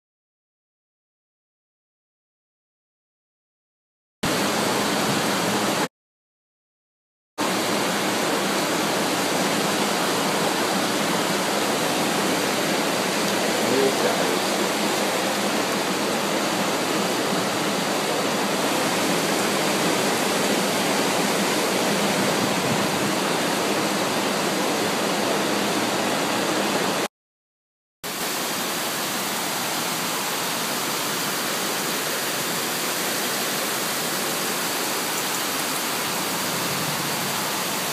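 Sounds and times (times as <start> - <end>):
floodwater rushing: 4.3 - 5.9, 7.4 - 27.1, 28.1 - 37.9.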